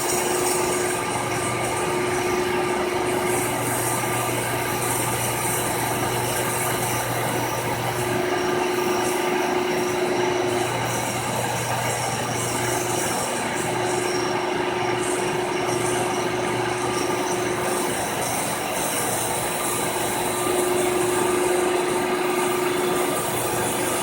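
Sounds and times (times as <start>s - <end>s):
milling machine running: 0.0s - 24.0s.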